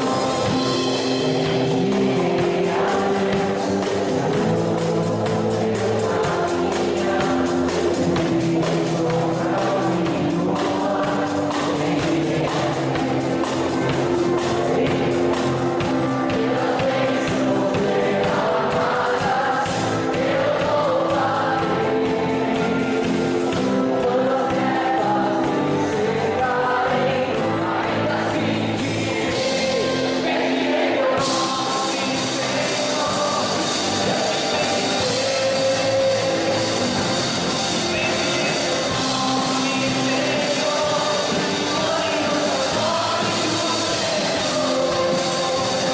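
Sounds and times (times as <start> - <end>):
live band playing gospel song: 0.0 - 45.9
person singing: 0.0 - 45.9.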